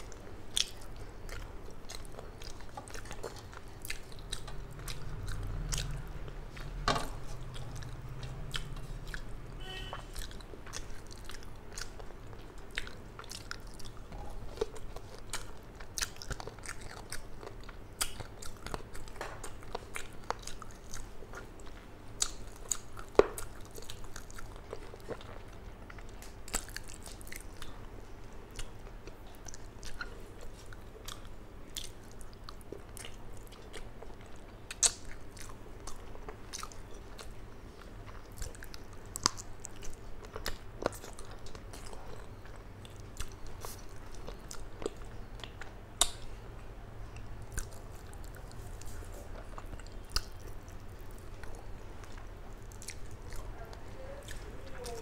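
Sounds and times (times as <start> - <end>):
person chewing and lip-smacking: 0.0 - 55.0.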